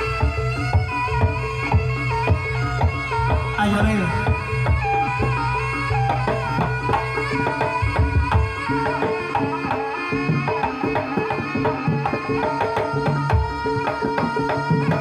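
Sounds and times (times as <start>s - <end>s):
hand drums: 0.0s - 15.0s.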